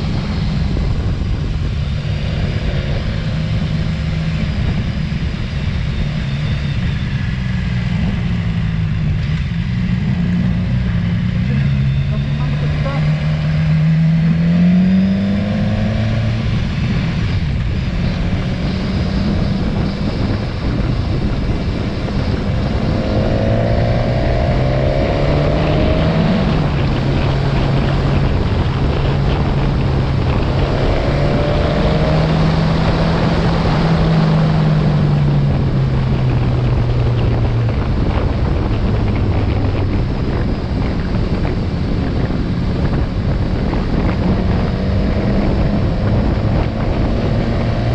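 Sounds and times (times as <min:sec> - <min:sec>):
motorcycle engine running: 0:00.0 - 0:47.9
wind rushing over microphone: 0:00.0 - 0:47.9.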